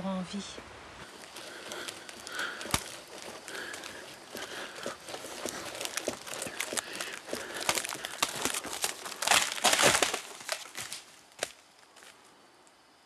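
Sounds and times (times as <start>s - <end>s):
twigs crackling underfoot: 0.6s - 12.8s.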